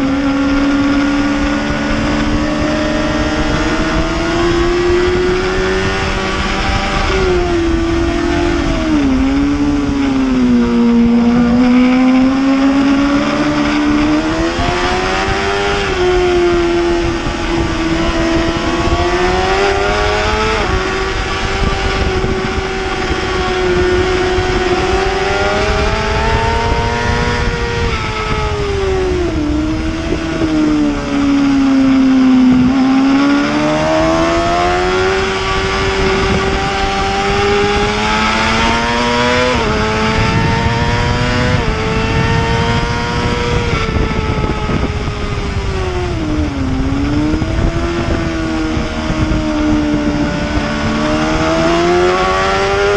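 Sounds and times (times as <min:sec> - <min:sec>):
motorbike engine revving: 0:00.0 - 0:52.9
wind rushing: 0:00.0 - 0:52.9.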